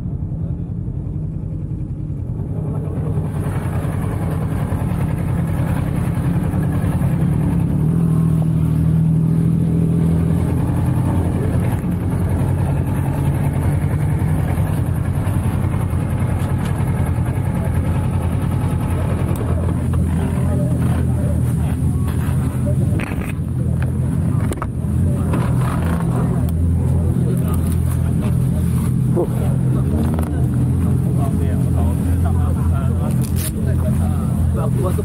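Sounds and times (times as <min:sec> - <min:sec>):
motorcycle engine at low revs: 0:00.0 - 0:35.0.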